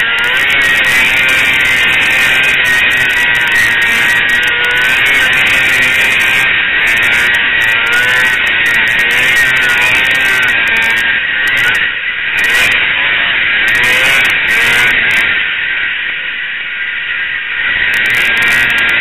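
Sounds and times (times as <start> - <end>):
snowmobile engine running hard: 0.0 - 19.0.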